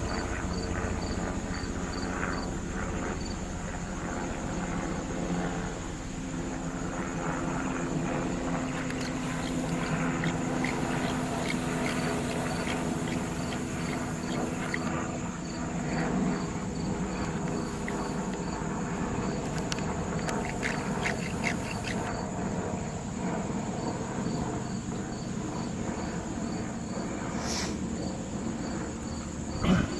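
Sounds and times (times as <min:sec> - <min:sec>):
crickets chirping: 0:00.0 - 0:29.9
helicopter drone: 0:00.0 - 0:29.9
high insect trill: 0:00.0 - 0:29.9.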